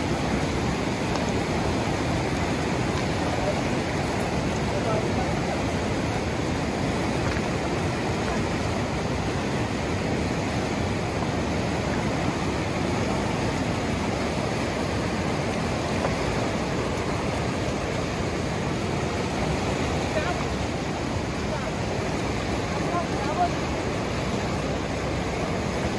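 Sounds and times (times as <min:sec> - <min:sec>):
river rushing over rapids: 0:00.0 - 0:25.9.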